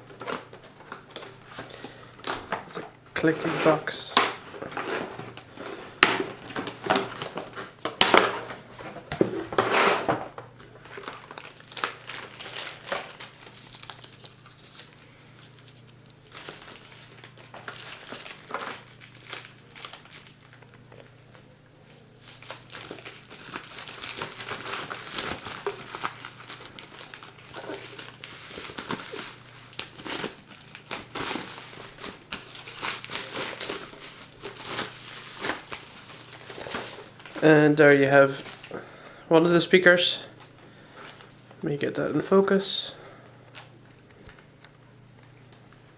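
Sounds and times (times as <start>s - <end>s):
packaging crinkling and rustling: 0.0s - 38.8s, 39.7s - 41.7s.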